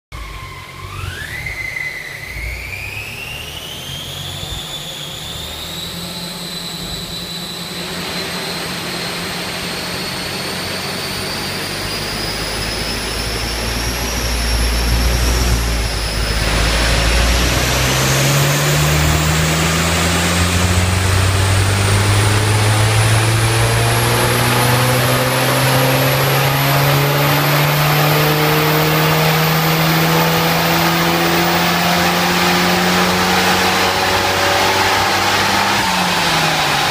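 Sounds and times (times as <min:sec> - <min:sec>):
car engine revving on dyno: 0:00.1 - 0:36.9
high whine: 0:00.1 - 0:36.9.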